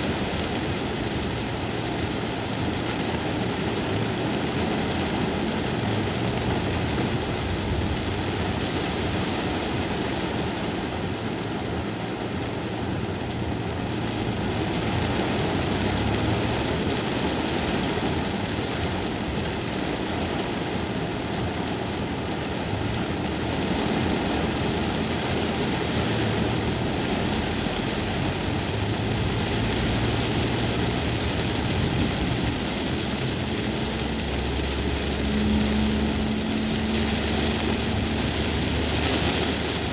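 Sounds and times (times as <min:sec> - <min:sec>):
car engine hum: 0:00.0 - 0:39.9
heavy rain on car roof: 0:00.0 - 0:39.9.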